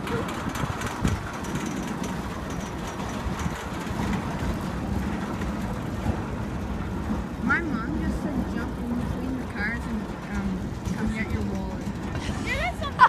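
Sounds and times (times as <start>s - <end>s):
faint rail clicks: 0.0s - 7.5s, 8.3s - 12.6s
train wheels rumbling on rails: 0.0s - 13.0s.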